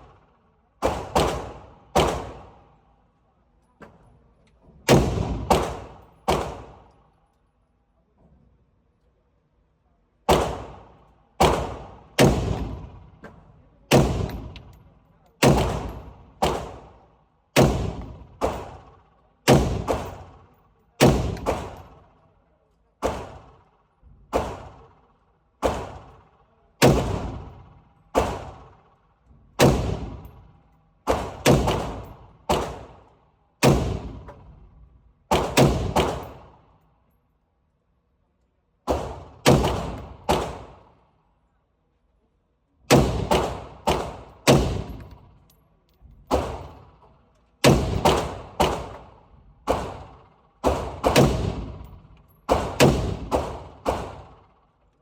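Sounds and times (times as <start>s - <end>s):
rifle shots with ringing echo: 0.0s - 2.8s, 4.9s - 7.2s, 10.2s - 22.2s, 23.0s - 36.9s, 38.8s - 41.1s, 42.9s - 45.5s, 46.2s - 54.8s.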